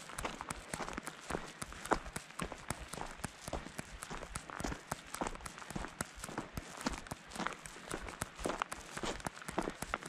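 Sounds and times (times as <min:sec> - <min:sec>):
footsteps crunching on gravel: 0:00.0 - 0:10.0.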